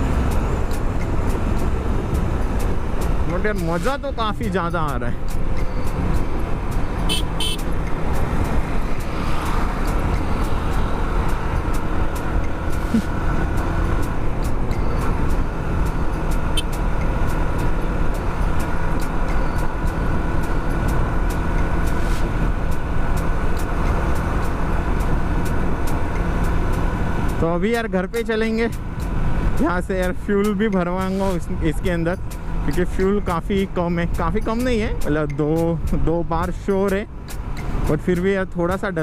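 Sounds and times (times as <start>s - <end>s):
road rumble: 0.0s - 39.0s
wind: 0.0s - 39.0s.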